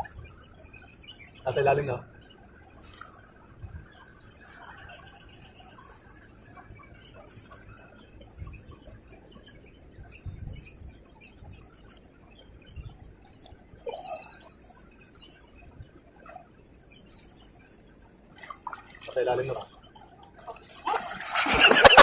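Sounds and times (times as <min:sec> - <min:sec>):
insect pulsing trill: 0:00.0 - 0:22.0
insect steady high trill: 0:00.0 - 0:22.0.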